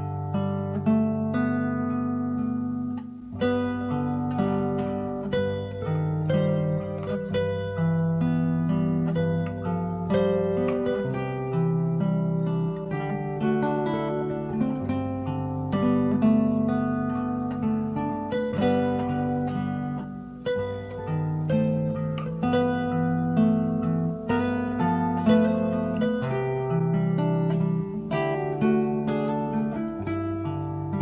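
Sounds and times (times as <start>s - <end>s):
fingerstyle nylon-string guitar: 0.0s - 31.0s.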